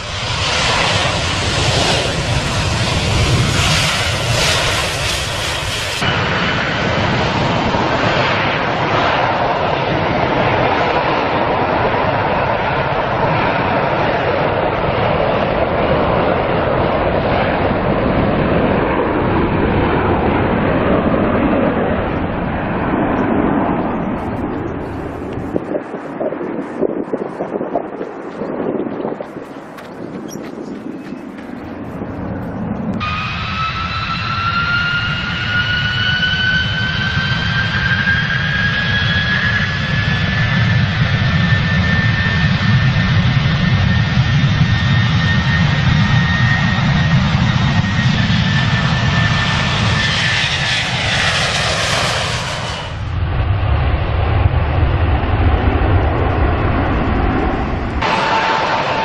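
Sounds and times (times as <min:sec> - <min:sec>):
jet engines spooling up: 0:00.0 - 0:10.8, 0:18.6 - 0:59.0
landing airliner jet sound: 0:00.0 - 0:59.0.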